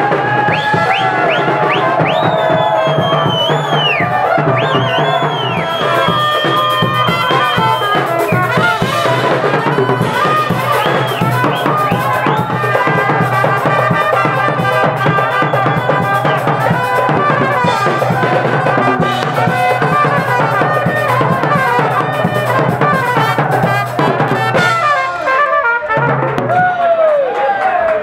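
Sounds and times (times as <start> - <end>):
drum kit and cymbals: 0.0 - 26.8
trumpet melody: 0.0 - 26.8.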